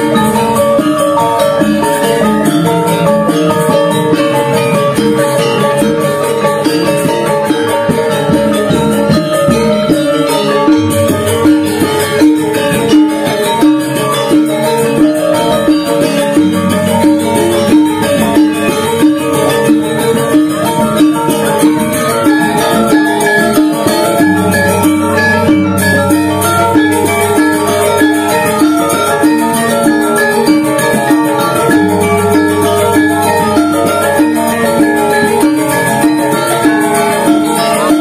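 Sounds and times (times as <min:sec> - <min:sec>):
gamelan ensemble playing: 0:00.0 - 0:38.0
metallophones ringing: 0:00.0 - 0:38.0.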